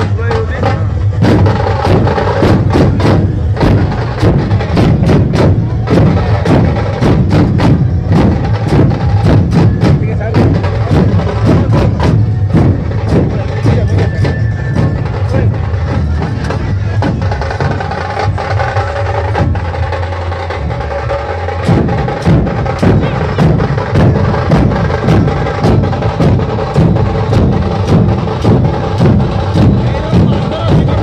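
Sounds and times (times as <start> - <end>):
dhol drums beaten with sticks: 0.0 - 31.0.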